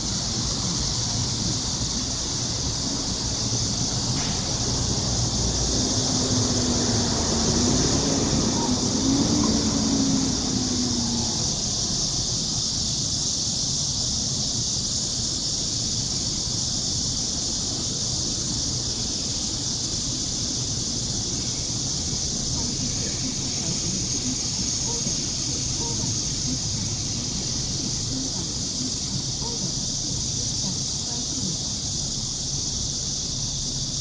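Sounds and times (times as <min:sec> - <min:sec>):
cicadas buzzing: 0:00.0 - 0:34.0
passing train rumble: 0:00.0 - 0:34.0.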